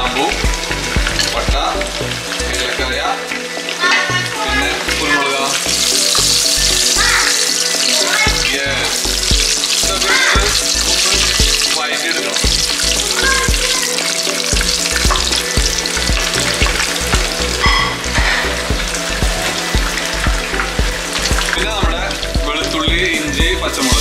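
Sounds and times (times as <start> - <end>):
spices sizzling in hot oil: 0.0 - 24.0.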